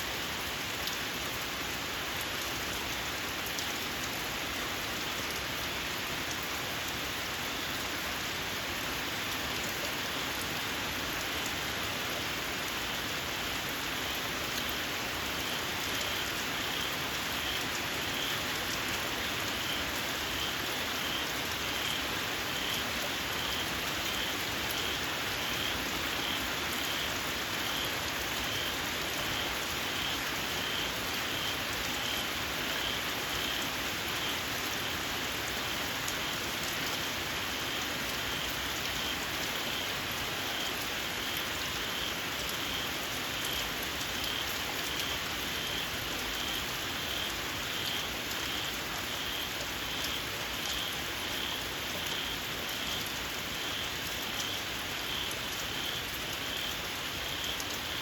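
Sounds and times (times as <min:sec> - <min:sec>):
rain falling on fields: 0:00.0 - 0:58.0.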